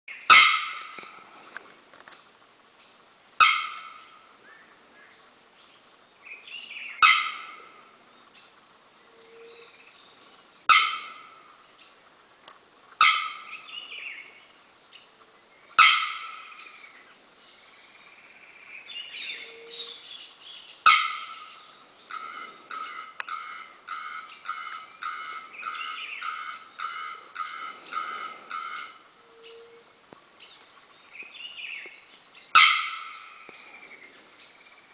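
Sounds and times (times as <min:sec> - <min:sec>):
high insect hum: 0:00.1 - 0:34.9.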